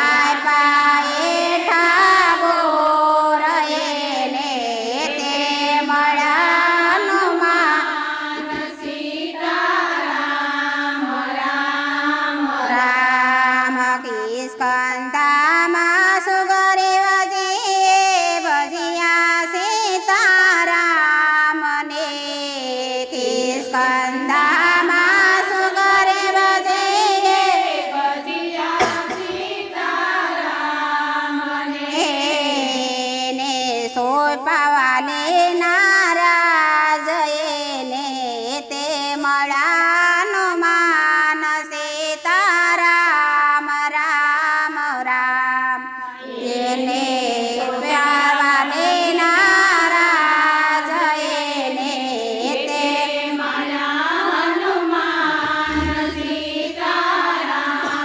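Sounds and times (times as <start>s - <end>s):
women singing devotional song: 0.0s - 58.0s.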